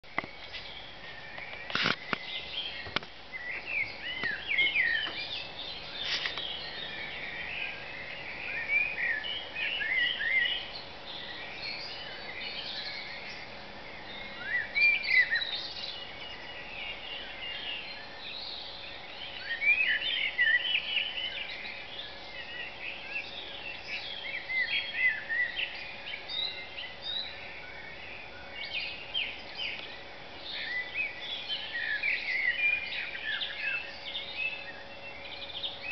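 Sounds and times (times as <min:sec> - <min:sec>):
many songbirds singing: 0:00.0 - 0:35.9.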